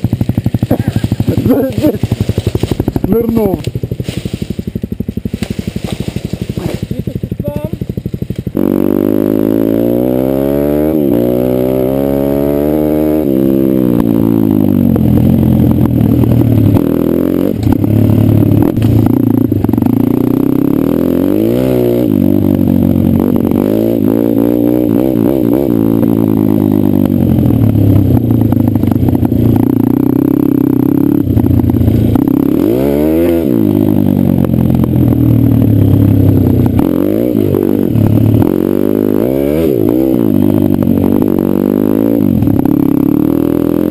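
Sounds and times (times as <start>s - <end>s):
small motorbike engine revving: 0.0s - 43.9s.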